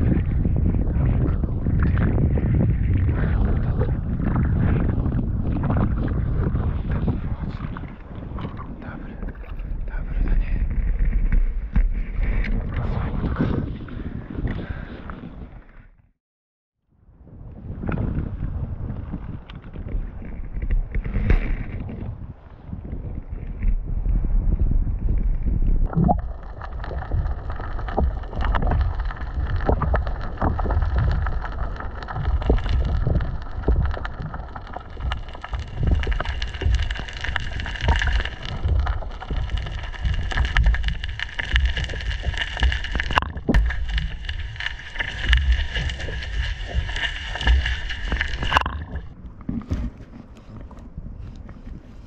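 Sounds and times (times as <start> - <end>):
underwater churning rumble: 0.0 - 15.7, 17.2 - 51.1
small clicks and crackles: 0.0 - 15.8, 17.8 - 24.2, 25.0 - 52.0.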